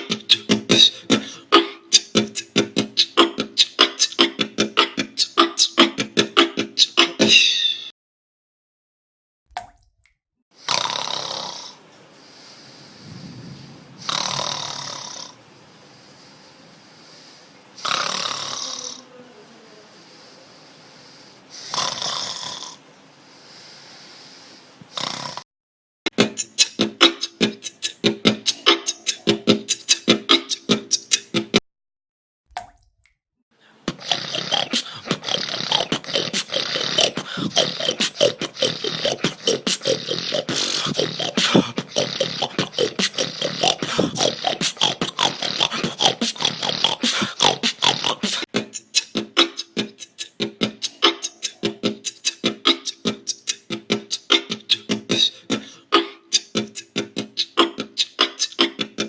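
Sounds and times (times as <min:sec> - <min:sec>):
person snoring loudly: 0:00.0 - 0:07.4, 0:10.6 - 0:11.8, 0:12.4 - 0:15.4, 0:17.2 - 0:22.8, 0:23.5 - 0:25.5, 0:26.1 - 0:31.6, 0:33.9 - 0:59.0.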